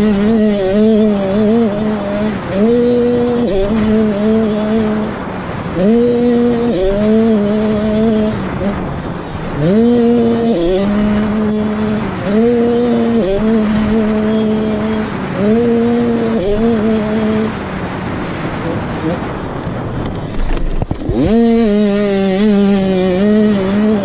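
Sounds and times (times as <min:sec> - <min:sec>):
two-stroke motocross engine revving: 0:00.0 - 0:19.5, 0:20.2 - 0:24.0.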